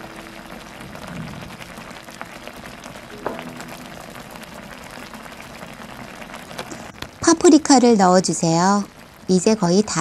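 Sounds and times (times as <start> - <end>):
sauce bubbling in a pan: 0.0 - 10.0.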